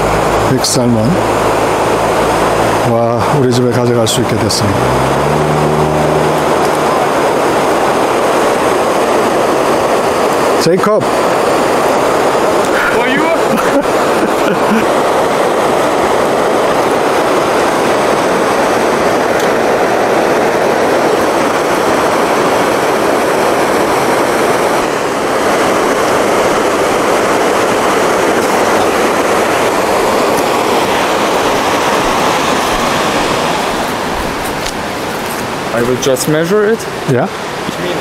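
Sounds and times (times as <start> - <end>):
river rushing: 0.0 - 38.0.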